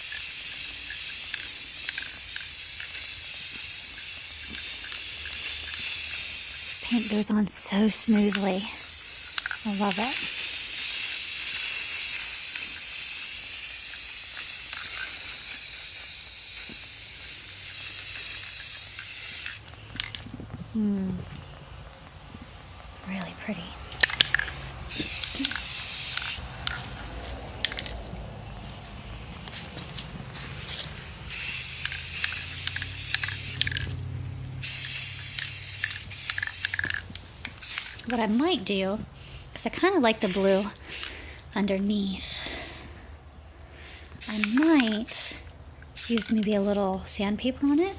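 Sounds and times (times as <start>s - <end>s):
spray paint can hissing: 0.0s - 20.8s, 23.9s - 42.9s, 43.8s - 47.9s.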